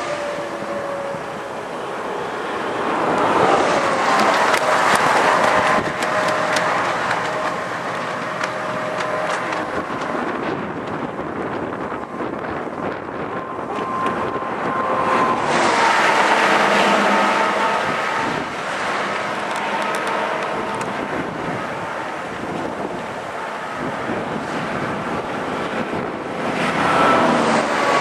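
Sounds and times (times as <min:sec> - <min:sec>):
faint steady whining tones: 0:00.0 - 0:28.0
wind gusting over microphone: 0:00.0 - 0:28.0.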